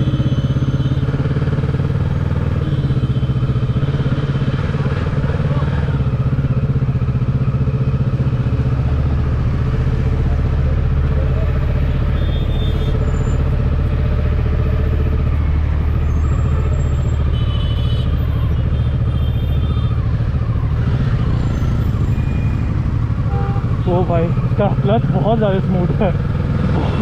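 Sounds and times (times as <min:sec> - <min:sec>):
motorcycle engine running steadily: 0:00.0 - 0:20.8, 0:21.9 - 0:27.0.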